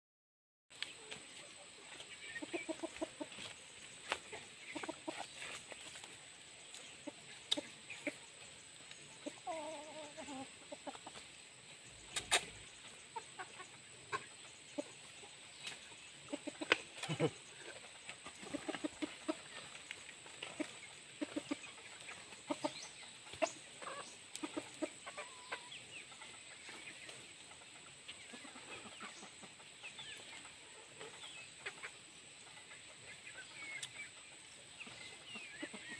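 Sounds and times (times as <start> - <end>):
chickens clucking: 0.7 - 35.9.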